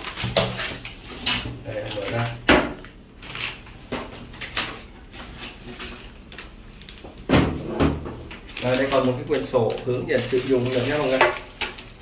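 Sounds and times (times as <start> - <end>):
plastic bag crinkling: 0.0 - 7.3, 8.2 - 12.0.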